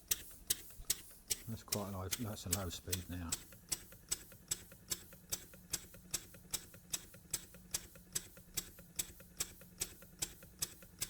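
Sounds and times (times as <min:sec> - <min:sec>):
steam engine ticking: 0:00.0 - 0:11.0.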